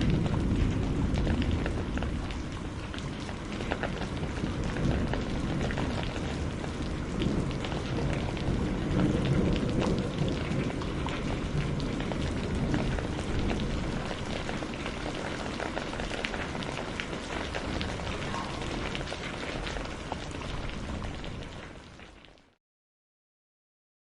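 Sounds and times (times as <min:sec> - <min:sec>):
heavy rain: 0:00.0 - 0:22.6.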